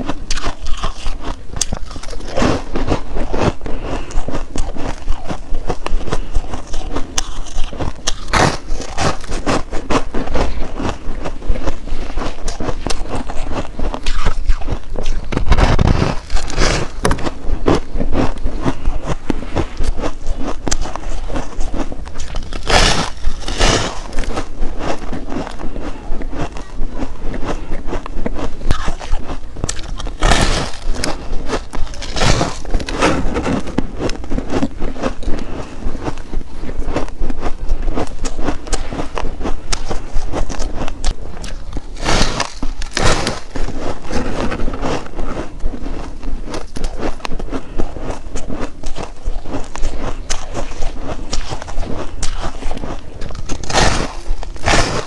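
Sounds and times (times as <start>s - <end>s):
ice being chewed crunching: 0.0s - 55.0s.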